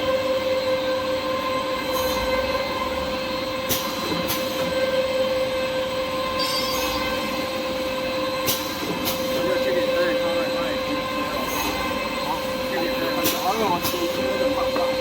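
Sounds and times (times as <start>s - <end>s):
cutting machine whine: 0.0s - 15.0s.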